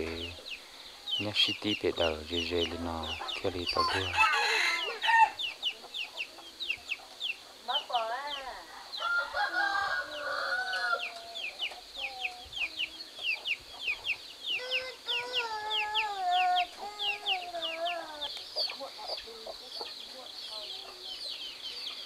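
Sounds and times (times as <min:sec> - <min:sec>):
chickens wavering calls: 0:00.0 - 0:22.0
chicks peeping: 0:00.0 - 0:22.0.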